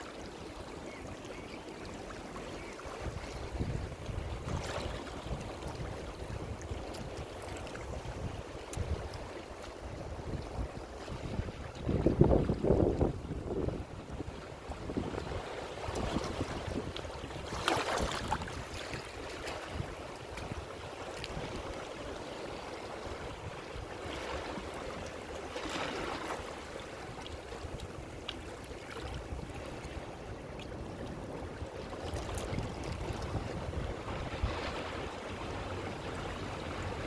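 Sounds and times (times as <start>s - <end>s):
ocean waves washing: 0.0s - 37.0s
waves breaking: 0.0s - 37.0s.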